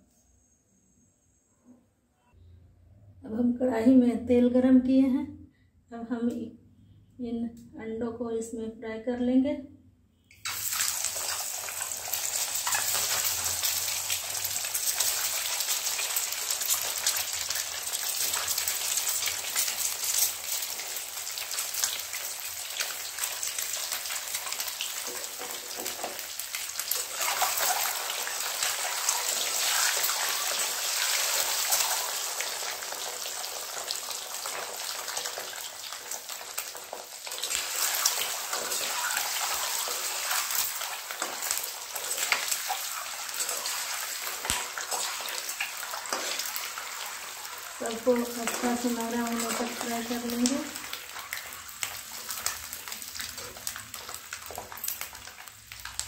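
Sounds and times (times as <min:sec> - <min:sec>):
eggs frying in hot oil: 0:10.3 - 0:56.0.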